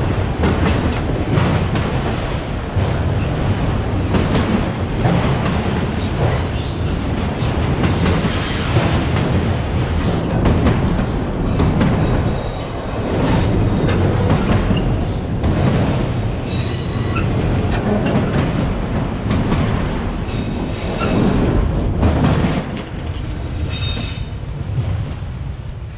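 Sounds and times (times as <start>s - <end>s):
freight train wheels rumbling on rail: 0.0s - 25.9s
train clattering: 0.0s - 25.9s.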